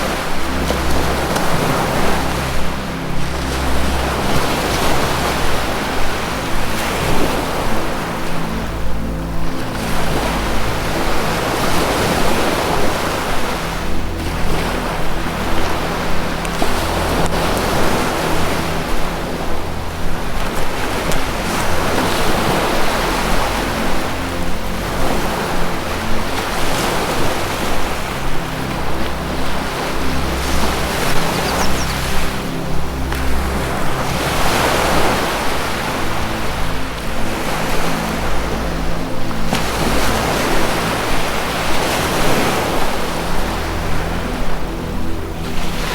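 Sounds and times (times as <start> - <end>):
low droning music tone: 0.0 - 45.9
ocean waves breaking: 0.0 - 45.9.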